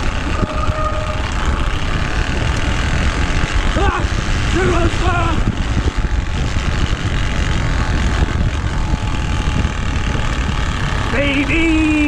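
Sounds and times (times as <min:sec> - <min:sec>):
card buzzing on bike spokes: 0:00.0 - 0:12.0
wind rushing over microphone: 0:00.0 - 0:12.0.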